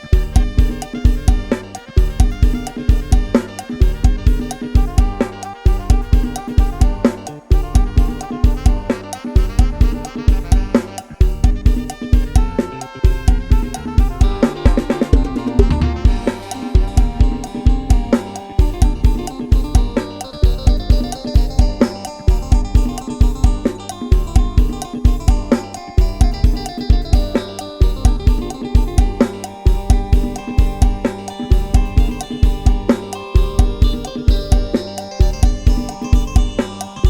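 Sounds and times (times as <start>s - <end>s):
bass guitar: 0.0s - 37.0s
drum kit beat: 0.0s - 37.0s
melody line: 0.1s - 37.0s.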